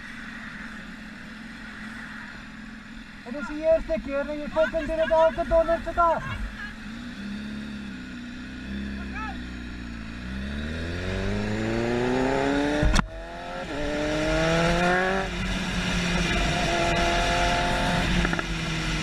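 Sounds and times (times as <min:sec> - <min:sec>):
motorcycle engine accelerating: 0:03.6 - 0:19.0.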